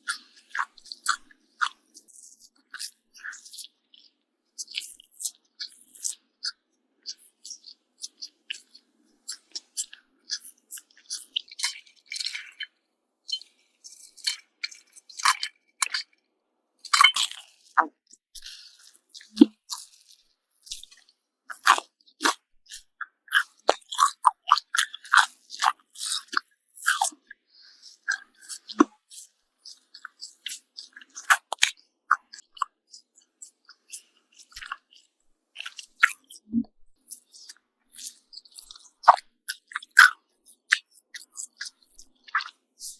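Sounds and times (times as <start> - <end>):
soft chewing: 0.0 - 42.9.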